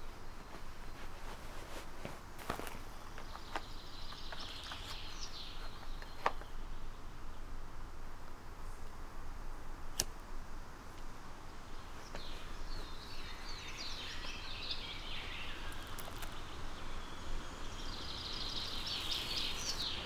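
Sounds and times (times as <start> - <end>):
songbird chirping: 0.0 - 9.1, 10.6 - 20.0.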